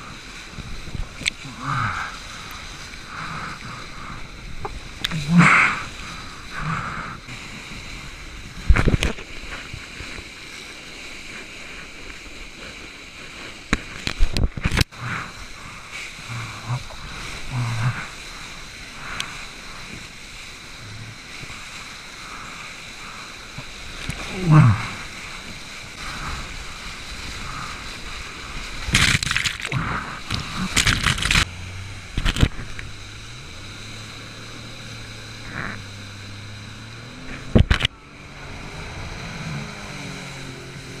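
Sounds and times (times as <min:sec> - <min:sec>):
rushing whitewater: 0:00.0 - 0:41.0
water splashing over camera: 0:00.0 - 0:41.0.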